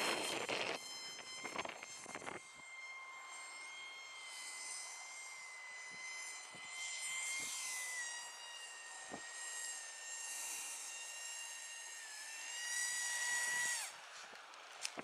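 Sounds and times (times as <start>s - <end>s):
model plane propeller whining: 0.0s - 15.0s.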